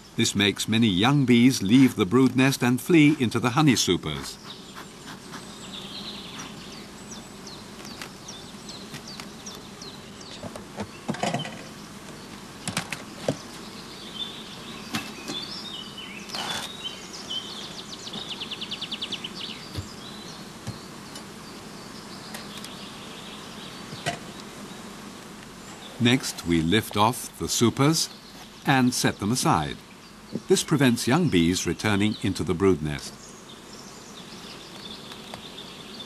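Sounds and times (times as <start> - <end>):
bees buzzing: 0.0 - 36.0
hive boxes knocking and ticking: 0.7 - 23.0, 23.6 - 36.0.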